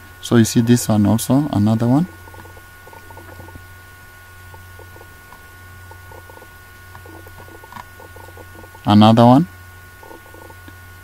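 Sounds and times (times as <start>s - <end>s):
indistinct background sounds: 0.0s - 10.7s
low hum: 0.0s - 11.0s.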